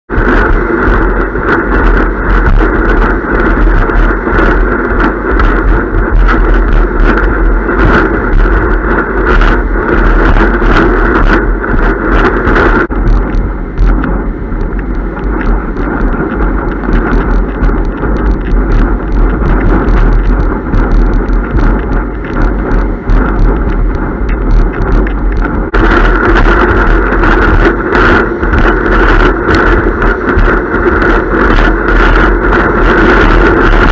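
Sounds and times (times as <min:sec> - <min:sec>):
water rushing and slapping under board: 0:00.1 - 0:33.9
wind buffeting microphone: 0:00.1 - 0:33.9.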